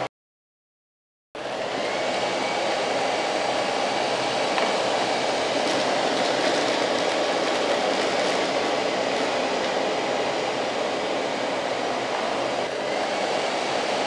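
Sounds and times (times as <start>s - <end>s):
robot vacuum whirring: 1.4s - 14.0s.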